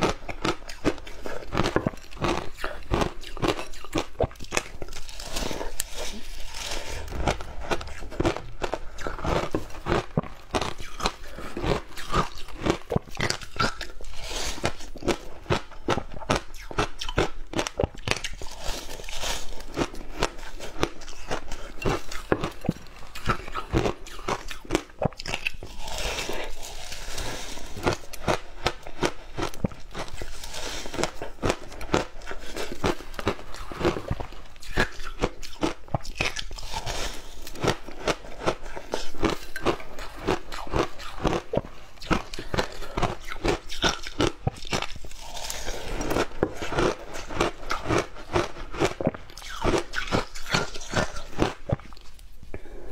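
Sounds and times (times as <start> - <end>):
crunching of chewed ice: 0.0 - 52.1.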